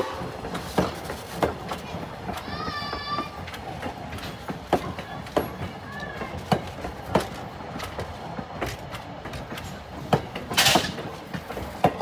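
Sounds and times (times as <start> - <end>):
train cars rumbling on track: 0.0 - 12.0
wheels clicking over rails: 0.0 - 12.0.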